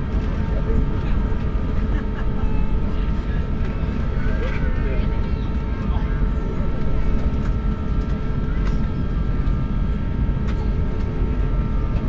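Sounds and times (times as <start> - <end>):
jet engines at taxi idle: 0.0 - 12.0.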